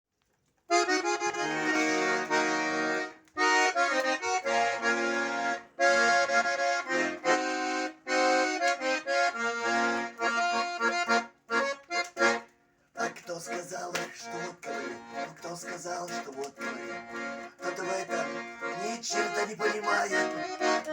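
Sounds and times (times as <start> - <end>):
button accordion playing: 0.7 - 20.9.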